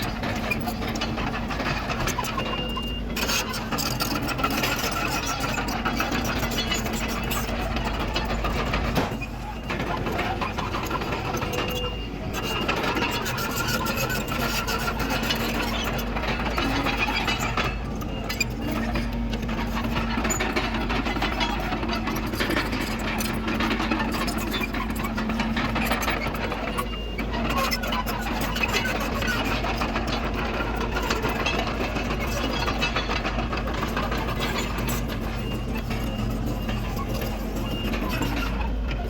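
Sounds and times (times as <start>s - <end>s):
dozer diesel engine running: 0.0s - 39.0s
rapid mechanical clatter: 0.0s - 39.0s.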